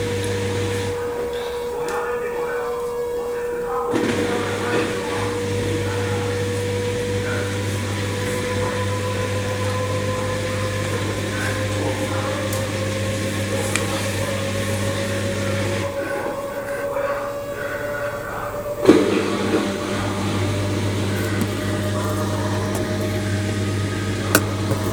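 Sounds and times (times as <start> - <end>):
washing machine humming: 0.0 - 24.9.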